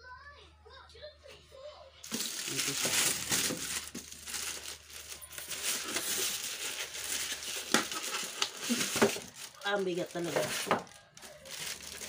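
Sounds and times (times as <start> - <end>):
plastic wrapping crinkling: 2.0 - 12.0.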